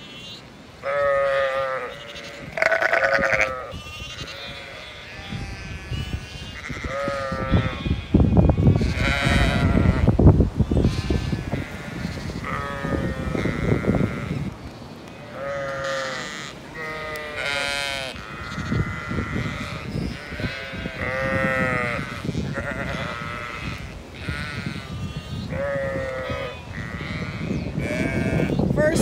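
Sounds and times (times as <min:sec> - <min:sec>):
sheep bleating: 0:00.0 - 0:14.5, 0:15.1 - 0:28.6
wind rumbling on microphone: 0:00.9 - 0:29.0.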